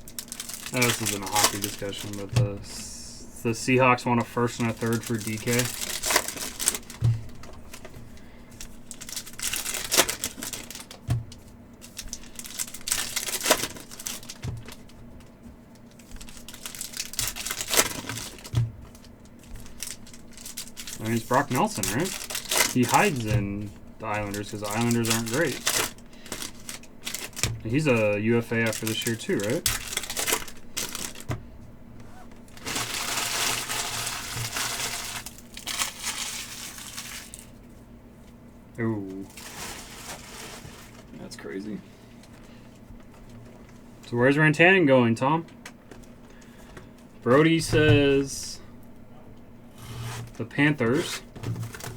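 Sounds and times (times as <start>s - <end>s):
wrappers crinkling and tearing: 0.0s - 31.3s, 32.1s - 37.7s, 39.0s - 43.8s, 49.7s - 51.9s.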